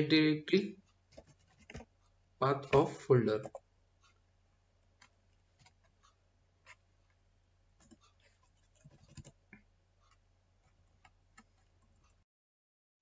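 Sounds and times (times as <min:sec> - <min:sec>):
low steady hum: 0:00.5 - 0:12.2.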